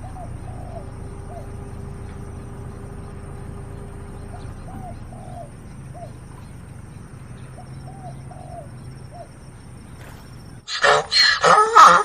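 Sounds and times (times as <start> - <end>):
short bird calls: 0.0 - 11.6
steady low hum: 0.0 - 12.0.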